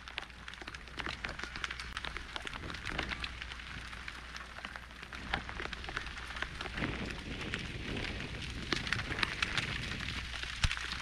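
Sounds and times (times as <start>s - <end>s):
raindrops tapping: 0.0s - 11.0s.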